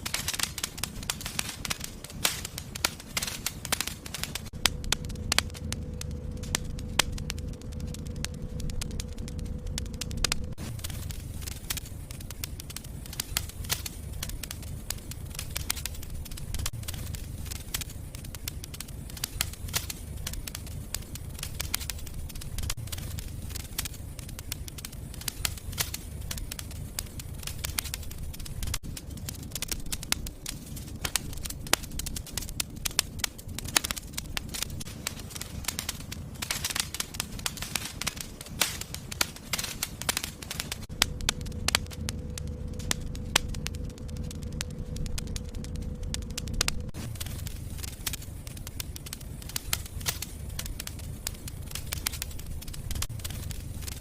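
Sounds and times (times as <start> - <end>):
fire crackling: 0.0 - 54.0
low rumble of flames: 0.0 - 54.0.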